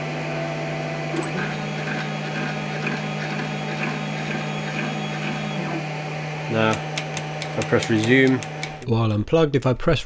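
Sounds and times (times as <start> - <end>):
workshop machinery humming: 0.0 - 8.9.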